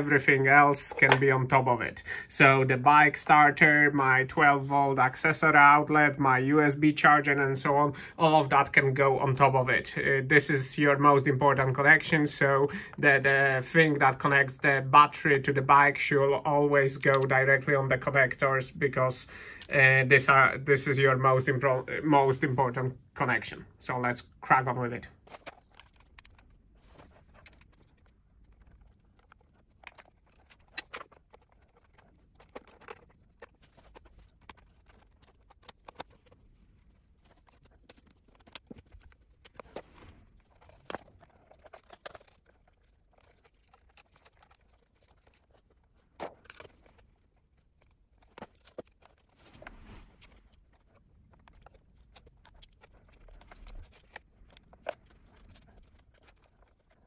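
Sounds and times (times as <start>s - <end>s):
cables rustling: 10.6s - 57.0s.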